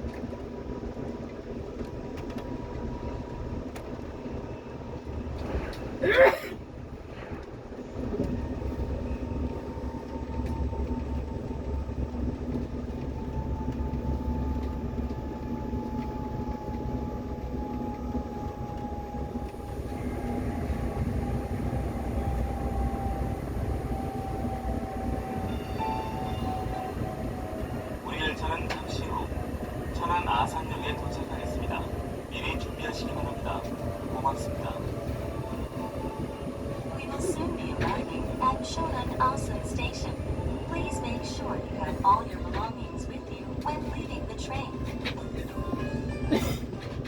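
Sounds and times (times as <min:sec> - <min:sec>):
train running on track: 0:00.0 - 0:47.0.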